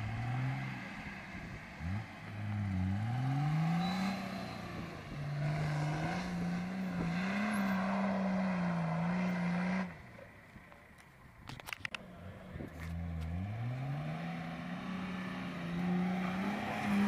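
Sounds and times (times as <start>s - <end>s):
engine revving under load: 0.0s - 10.2s, 12.4s - 17.0s.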